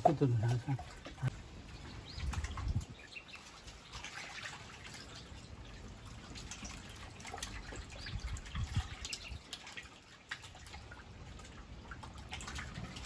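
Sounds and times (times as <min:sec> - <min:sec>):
water dripping and splashing: 0:00.0 - 0:13.0.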